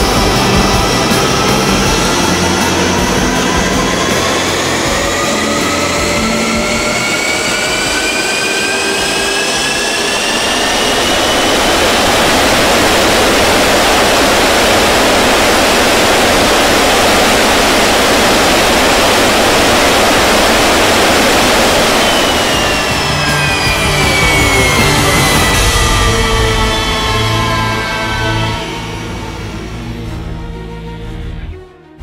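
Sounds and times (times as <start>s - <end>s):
jet engine whine and roar: 0.0s - 32.0s.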